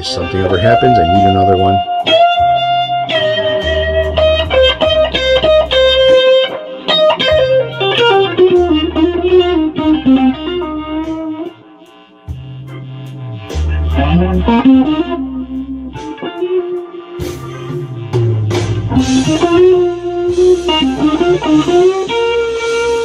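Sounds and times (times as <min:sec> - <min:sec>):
low bass notes: 0:00.0 - 0:06.5, 0:07.2 - 0:11.6, 0:12.2 - 0:23.0
electric guitar lead line: 0:00.0 - 0:23.0.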